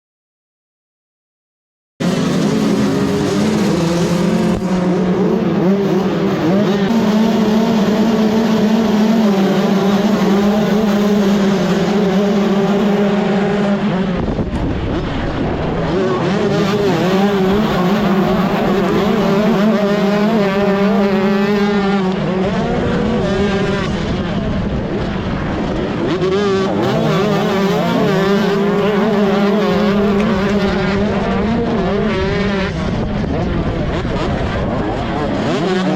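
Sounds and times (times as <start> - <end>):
two-stroke dirt bike engine revving: 2.0 - 14.3, 15.6 - 25.0, 25.7 - 35.9.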